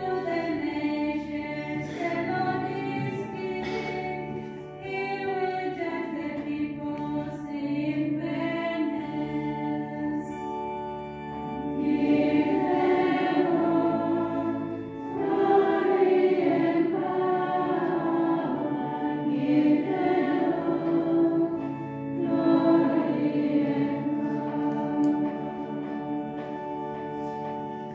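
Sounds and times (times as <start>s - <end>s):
choir singing: 0.0s - 10.8s, 11.4s - 27.9s
held instrument chords: 0.0s - 27.9s.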